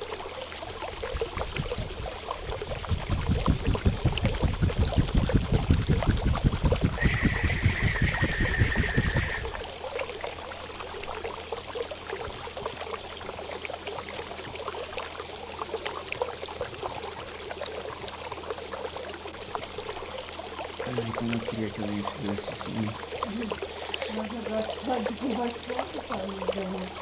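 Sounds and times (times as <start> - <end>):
water trickling and gurgling: 0.0 - 27.0.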